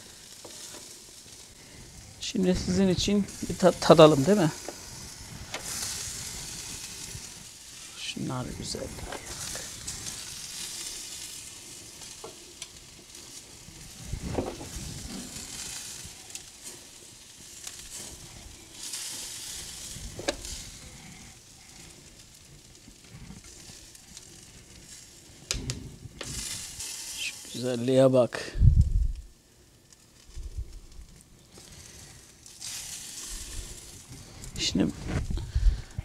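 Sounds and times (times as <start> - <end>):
chicken wings sizzling on grill: 0.0 - 36.0.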